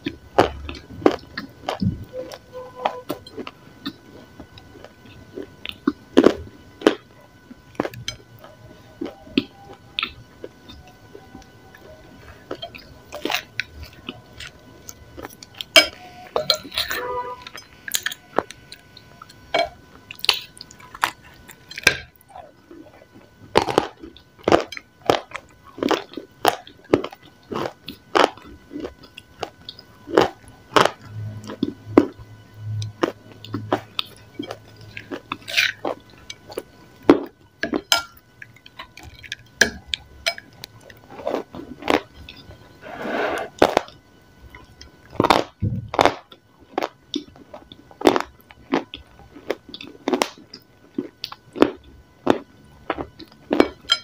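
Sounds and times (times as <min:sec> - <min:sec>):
soft chewing: 0:00.0 - 0:54.0.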